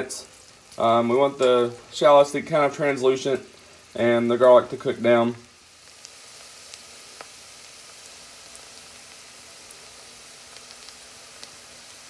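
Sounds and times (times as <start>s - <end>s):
shallots and garlic sizzling: 0.0s - 12.0s
small pops of frying: 0.0s - 12.0s.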